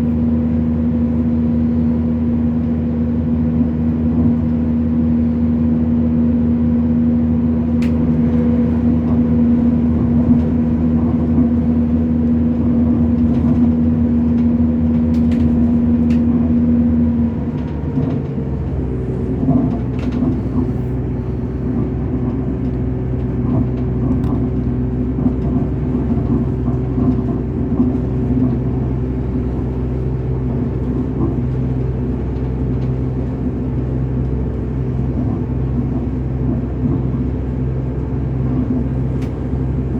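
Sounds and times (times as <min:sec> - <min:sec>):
diesel train engine drone: 0:00.0 - 0:39.9.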